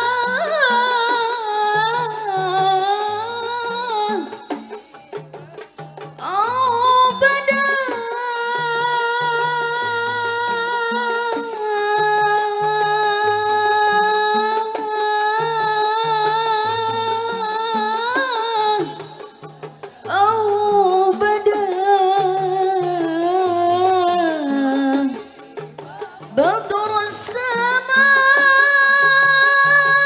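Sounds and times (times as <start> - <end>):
woman singing amplified: 0.0 - 30.0.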